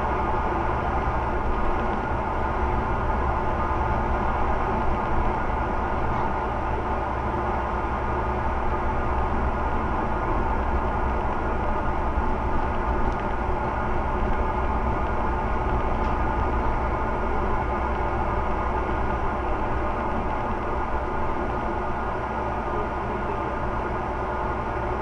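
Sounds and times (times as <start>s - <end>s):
bus engine drone: 0.0s - 25.0s
road noise: 0.0s - 25.0s.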